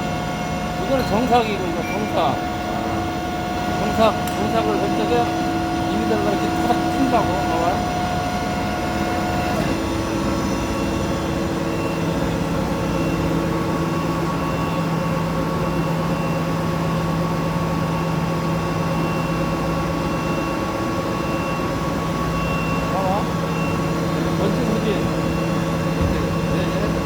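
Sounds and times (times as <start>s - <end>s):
hydraulic machine humming: 0.0s - 27.0s.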